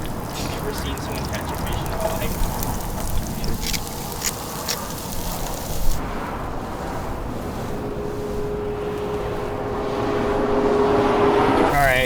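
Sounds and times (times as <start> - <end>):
road traffic rushing: 0.0 - 12.0
vehicle humming: 0.0 - 12.0.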